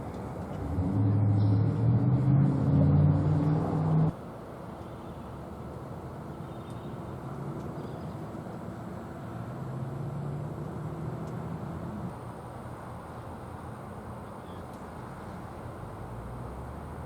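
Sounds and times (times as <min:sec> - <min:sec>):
low rumble of vehicle noise: 0:00.0 - 0:17.0
vehicle engine hum passing: 0:00.0 - 0:17.0.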